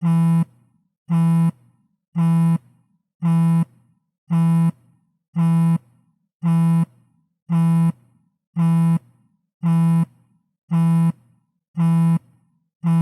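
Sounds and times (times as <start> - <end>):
phone vibrating buzzes: 0.0 - 1.6, 2.2 - 4.8, 5.4 - 13.0.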